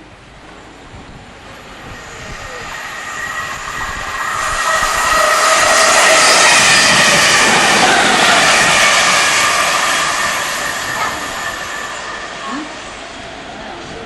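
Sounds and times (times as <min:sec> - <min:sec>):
high train whine: 0:00.0 - 0:14.0
electric train rushing: 0:00.7 - 0:14.0.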